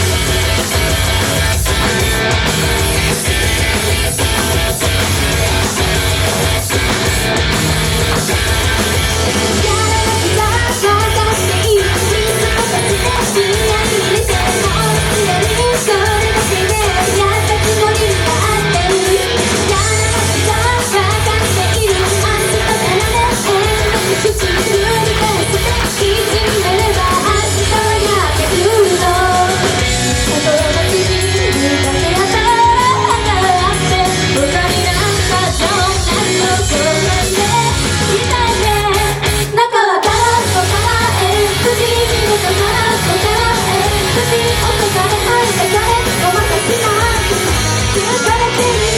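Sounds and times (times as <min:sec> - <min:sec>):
live rock band playing: 0:00.0 - 0:48.9
person singing: 0:09.4 - 0:48.9.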